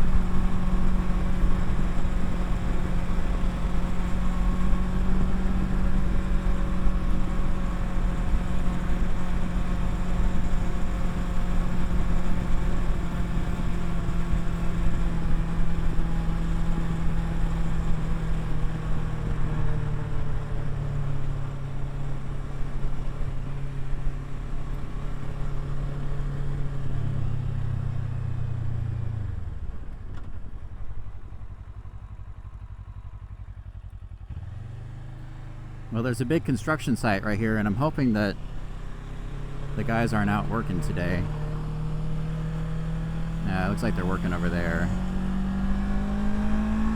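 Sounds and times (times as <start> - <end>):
motorcycle engine running: 0.0 - 22.7, 30.4 - 46.9.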